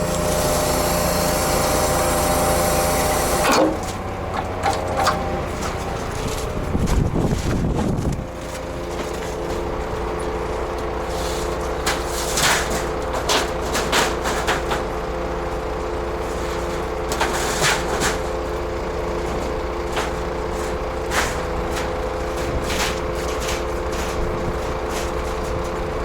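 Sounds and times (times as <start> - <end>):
engine whine: 0.0 - 26.0
truck engine idling: 0.0 - 26.0.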